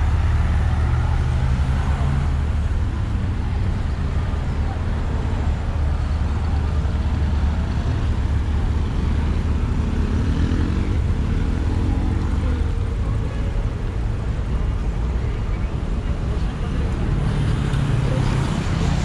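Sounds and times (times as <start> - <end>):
passing cars rumbling: 0.0 - 19.0.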